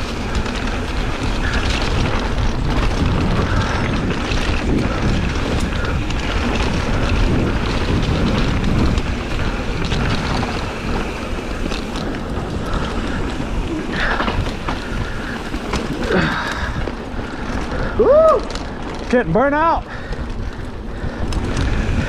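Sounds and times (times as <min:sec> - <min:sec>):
bike rattles and clicks: 0:00.0 - 0:22.0
knobby tyres rolling on dirt: 0:00.0 - 0:22.0
wind rushing over microphone: 0:00.0 - 0:22.0.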